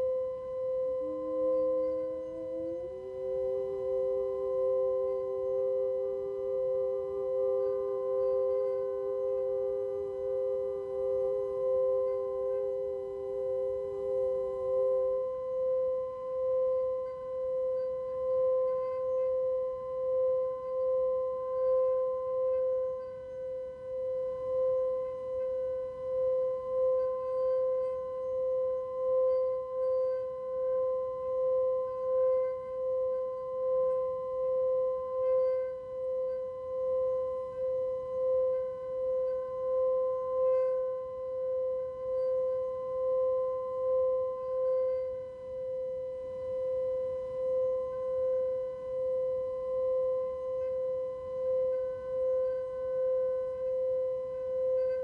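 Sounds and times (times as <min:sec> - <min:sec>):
singing bowl tone: 0:00.0 - 0:55.0.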